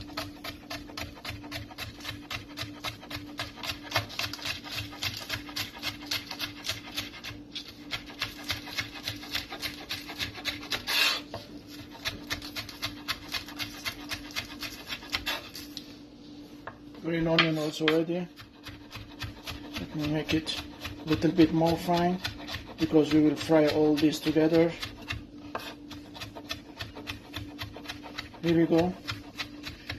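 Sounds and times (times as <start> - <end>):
knife chopping on wooden board: 0.0 - 15.5, 16.7 - 29.9.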